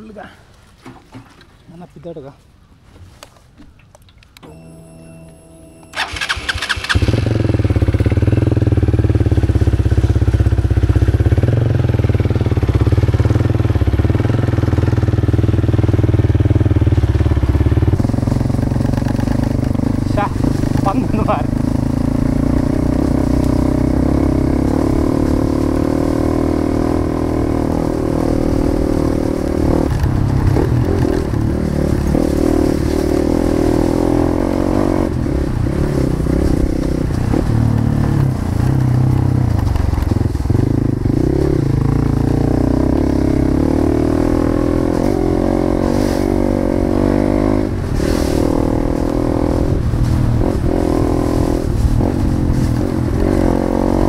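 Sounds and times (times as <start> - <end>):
motorcycle engine running: 5.9 - 54.0.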